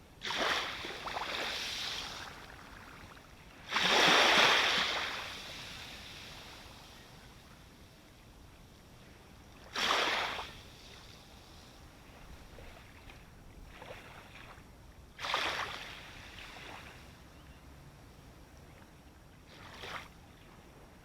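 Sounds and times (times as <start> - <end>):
low steady water wash: 0.0 - 21.0
small waves breaking: 0.2 - 17.3, 18.5 - 21.0.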